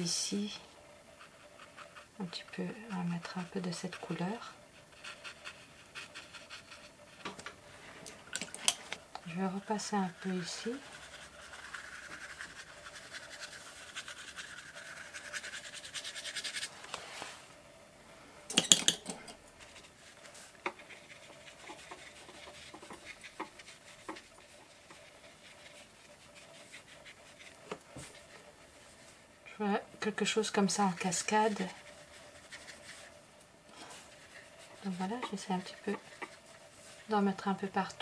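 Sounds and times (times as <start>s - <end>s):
paintbrush scratching on paper: 0.0s - 7.3s, 9.2s - 17.5s, 19.6s - 38.0s.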